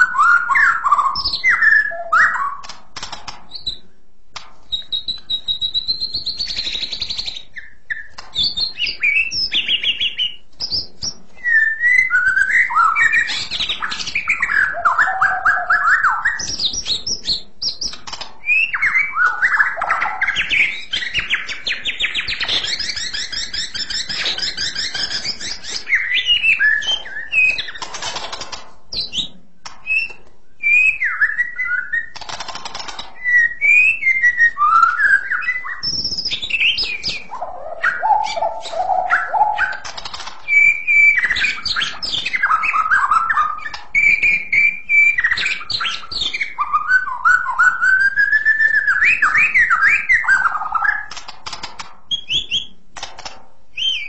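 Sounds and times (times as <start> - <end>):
bird singing whistled song: 0.0 - 2.7, 3.5 - 3.8, 4.7 - 27.9, 28.9 - 32.3, 33.2 - 51.2, 52.1 - 52.8, 53.7 - 54.0.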